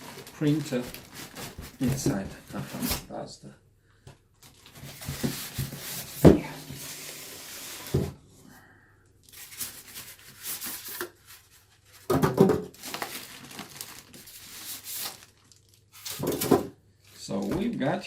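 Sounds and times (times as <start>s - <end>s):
packing materials rustling and tearing: 0.0s - 3.1s, 4.4s - 8.0s, 9.2s - 12.1s, 12.7s - 17.5s.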